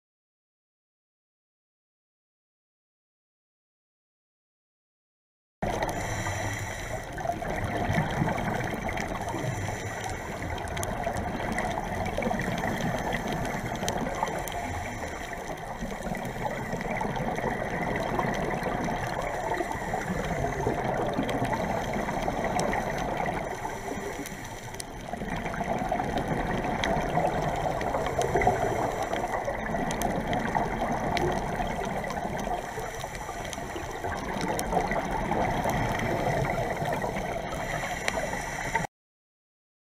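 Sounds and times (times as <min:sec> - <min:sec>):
faint underwater clicks: 0:05.6 - 0:38.9
underwater rushing hiss: 0:05.7 - 0:38.9.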